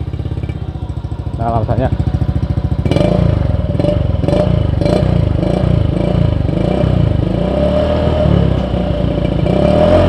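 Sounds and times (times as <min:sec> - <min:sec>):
scooter engine revving: 0:00.0 - 0:10.0.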